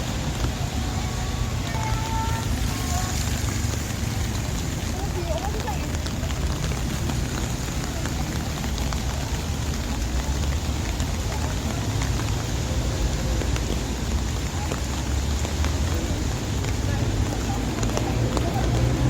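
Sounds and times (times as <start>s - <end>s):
raindrop ticks: 0.0s - 19.0s
steady rain: 0.0s - 19.0s.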